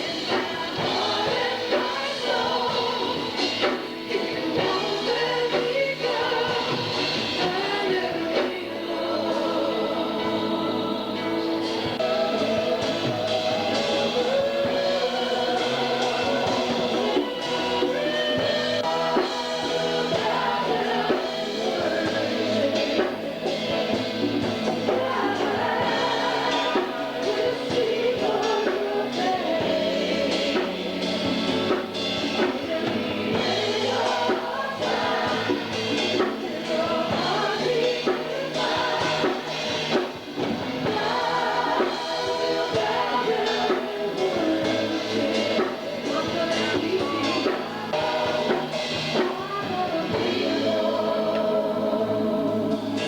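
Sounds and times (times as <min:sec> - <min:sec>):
band playing: 0:00.0 - 0:53.0
drum kit beat: 0:00.0 - 0:53.0
voices singing together: 0:00.0 - 0:53.0.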